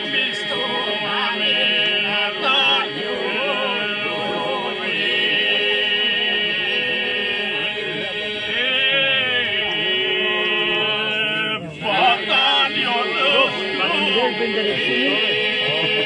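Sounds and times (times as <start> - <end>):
folk group singing in parts: 0.0 - 16.0
held vocal drone: 0.0 - 16.0.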